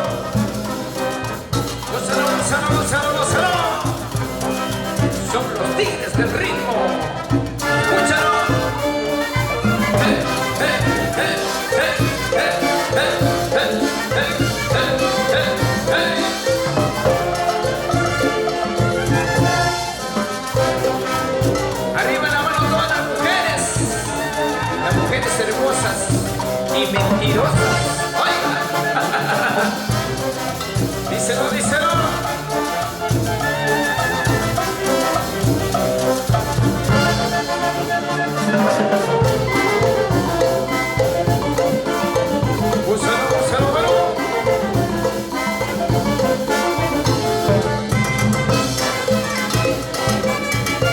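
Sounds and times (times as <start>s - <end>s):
brass band playing cumbia: 0.0s - 50.9s
steady drum beat: 0.0s - 50.9s.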